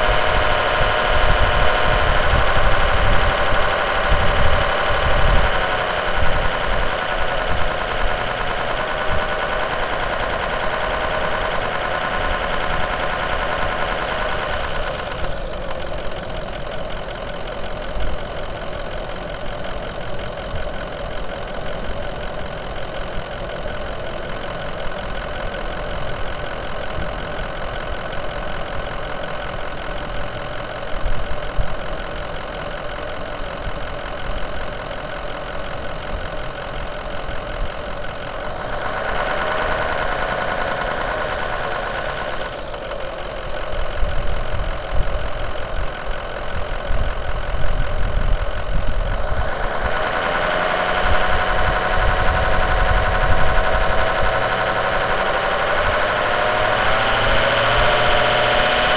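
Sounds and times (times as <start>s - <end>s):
diesel truck engine running: 0.0s - 58.9s
high-pitched engine whine: 0.0s - 58.9s.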